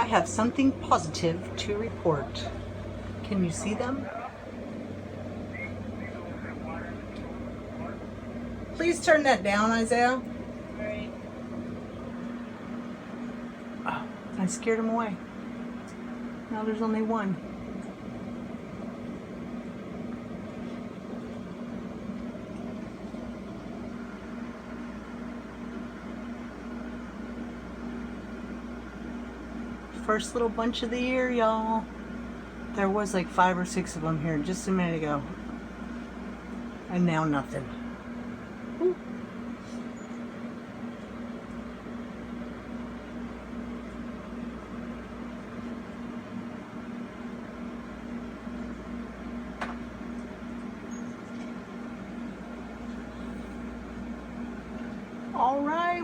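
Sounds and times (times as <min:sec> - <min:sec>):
low pulsing buzzing tone: 0:00.0 - 0:56.0
mechanical hum with low drone: 0:00.0 - 0:56.0.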